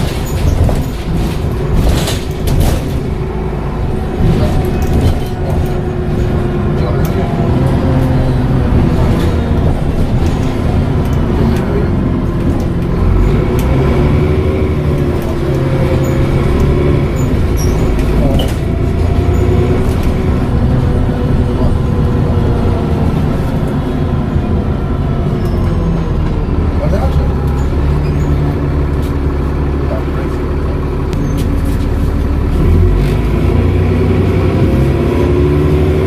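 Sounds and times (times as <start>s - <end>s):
bus diesel engine drone: 0.0s - 36.0s.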